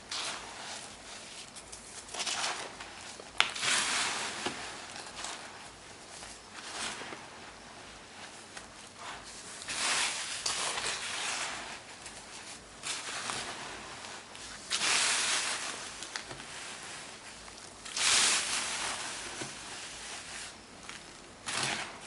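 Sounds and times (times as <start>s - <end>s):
baking soda crunching: 0.0s - 22.0s.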